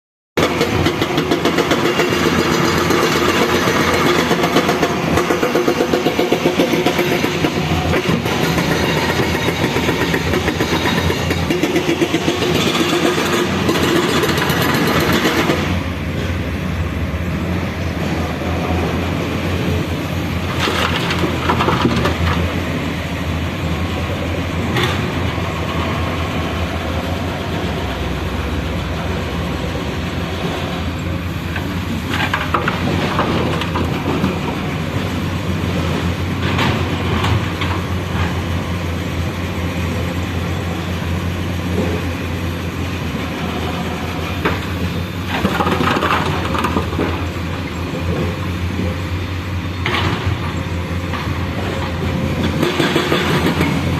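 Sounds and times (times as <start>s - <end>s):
diesel engine throbbing: 0.4s - 53.9s.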